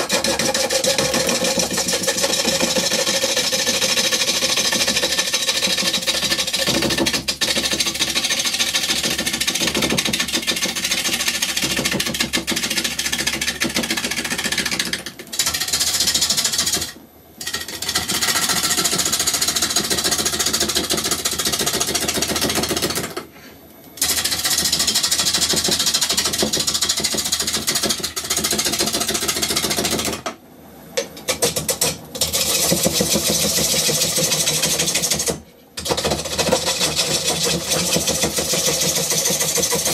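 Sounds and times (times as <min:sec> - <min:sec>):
wood lathe spinning: 0:00.0 - 0:23.2, 0:24.0 - 0:30.2, 0:31.5 - 0:39.9.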